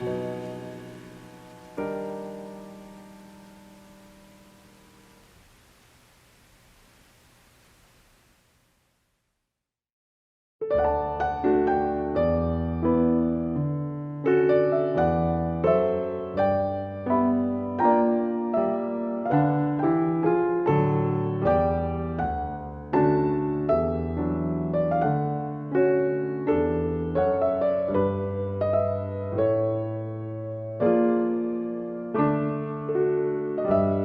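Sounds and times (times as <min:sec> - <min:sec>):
slow gentle piano music: 0:00.0 - 0:05.4, 0:10.6 - 0:34.0.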